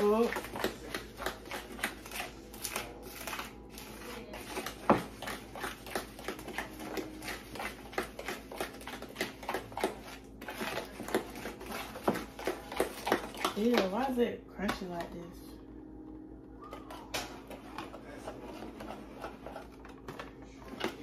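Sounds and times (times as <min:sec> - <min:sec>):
fork beating batter in bowl: 0:00.0 - 0:15.3, 0:16.7 - 0:21.0.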